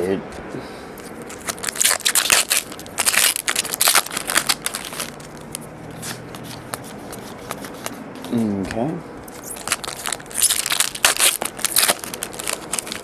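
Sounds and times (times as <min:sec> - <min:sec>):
foil wrapper crinkling: 0:01.0 - 0:07.8, 0:09.3 - 0:13.0
cards being flipped by hand: 0:01.0 - 0:13.0.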